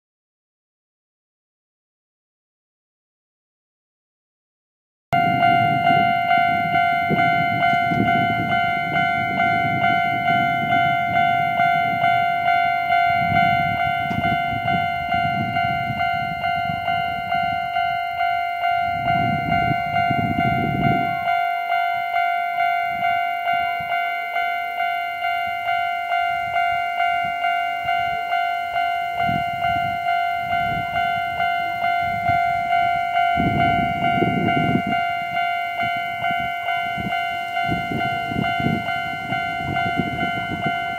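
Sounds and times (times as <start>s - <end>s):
level crossing alarm ringing: 5.2s - 40.9s
train rumbling: 5.2s - 40.9s.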